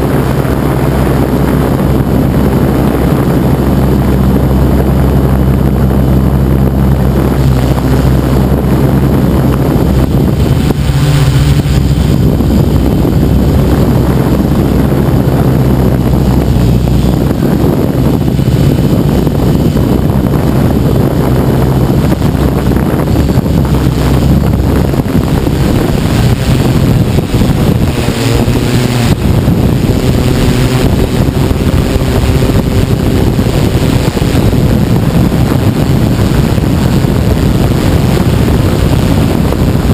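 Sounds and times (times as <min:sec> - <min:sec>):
drone motors humming: 0:00.0 - 0:39.9
rushing wind noise: 0:00.0 - 0:39.9.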